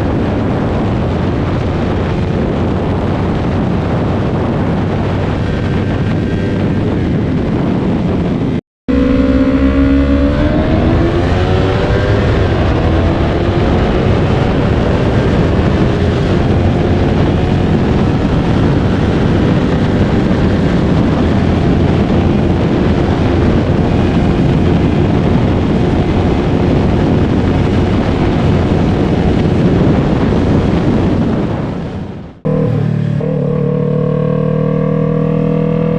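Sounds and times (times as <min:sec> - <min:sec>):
motorcycle engine accelerating: 0:00.0 - 0:35.9
wind rushing over microphone: 0:00.0 - 0:35.9.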